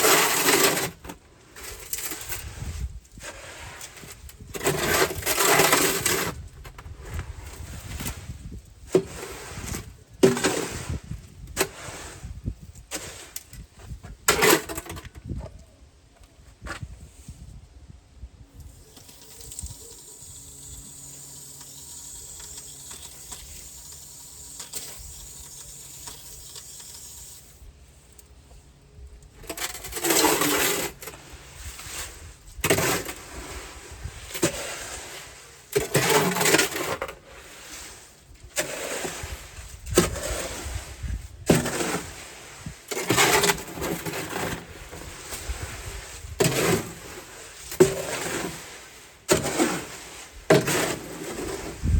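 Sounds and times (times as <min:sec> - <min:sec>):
gritty scraping of wet concrete: 0:00.0 - 0:15.6, 0:18.6 - 0:51.9.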